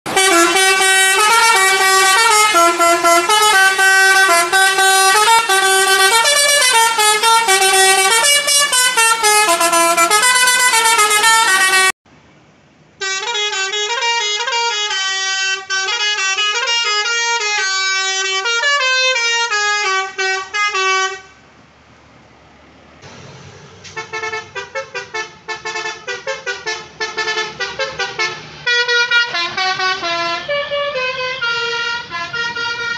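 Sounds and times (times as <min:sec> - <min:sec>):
bus musical horn melody: 0:00.1 - 0:12.0, 0:13.0 - 0:21.5, 0:23.8 - 0:32.9.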